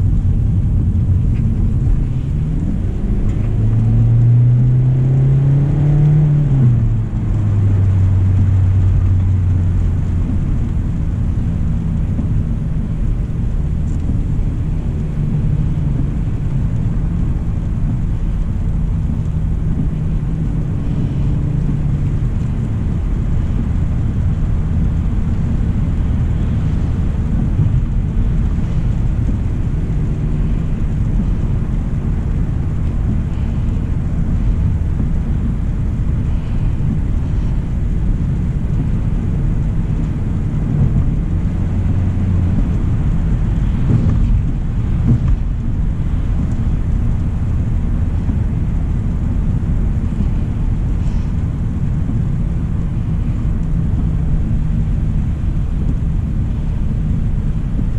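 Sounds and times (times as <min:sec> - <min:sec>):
car engine humming: 0:00.0 - 0:57.9
road rumble: 0:00.0 - 0:57.9.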